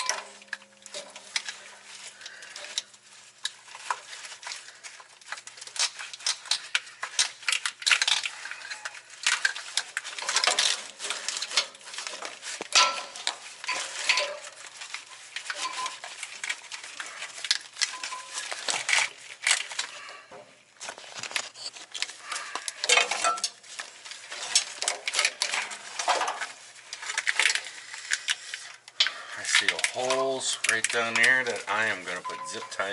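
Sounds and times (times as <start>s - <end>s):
plastic connectors clicking and clinking: 0.0s - 20.0s, 20.8s - 32.9s.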